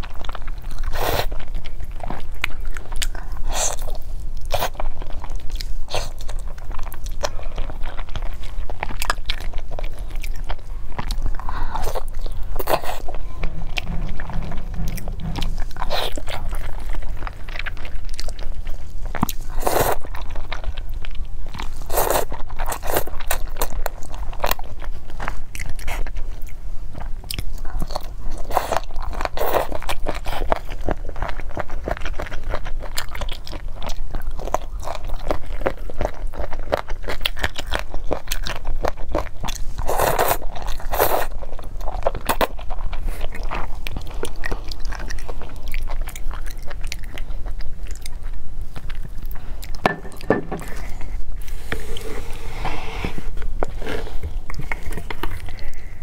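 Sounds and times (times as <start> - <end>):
biting and chewing food: 0.0 - 52.4, 53.3 - 56.0.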